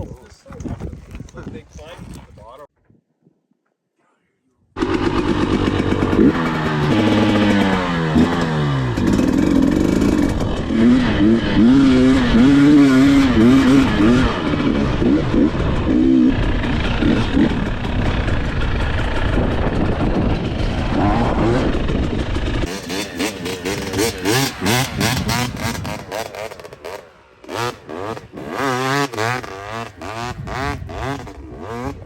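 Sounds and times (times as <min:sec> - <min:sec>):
dirt bike engine revving: 0:04.8 - 0:32.0.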